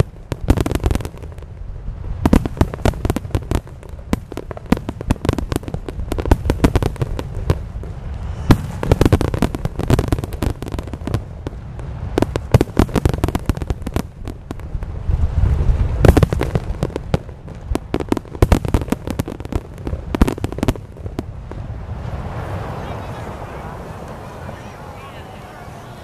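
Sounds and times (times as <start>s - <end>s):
fireworks crackling and popping: 0.0s - 26.0s
low rumble of booms: 0.2s - 22.8s.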